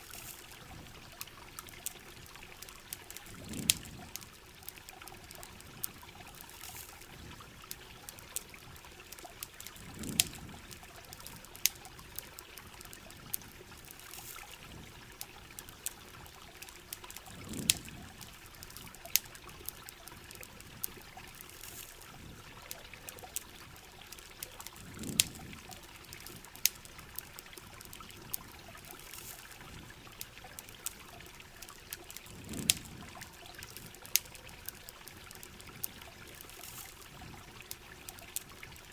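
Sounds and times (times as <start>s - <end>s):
campfire crackles: 0.0s - 38.9s
running water: 0.0s - 38.9s
steady rain: 0.0s - 38.9s.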